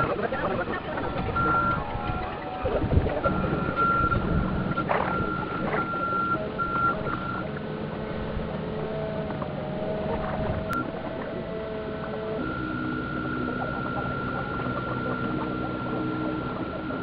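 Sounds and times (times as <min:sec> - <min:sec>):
high electric motor whine: 0:00.0 - 0:17.0.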